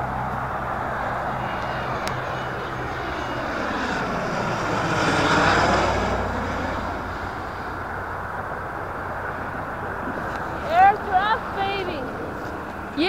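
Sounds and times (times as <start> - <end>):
aircraft passing overhead: 0.0 - 13.0.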